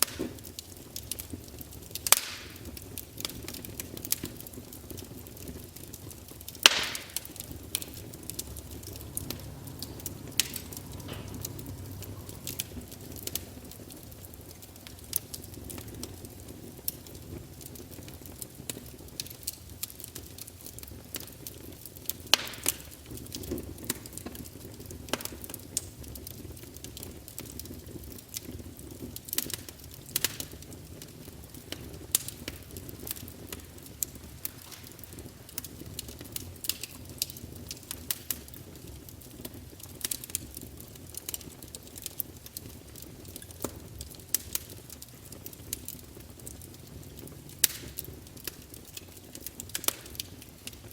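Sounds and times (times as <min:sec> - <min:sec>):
logs crackling and popping: 0:00.0 - 0:50.9
low rumble of flames: 0:00.0 - 0:50.9.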